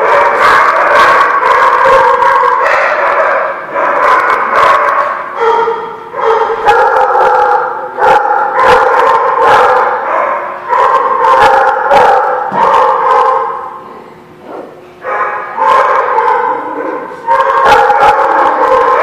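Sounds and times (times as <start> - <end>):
small dogs barking and yapping: 0.0 - 13.8, 14.5 - 19.0.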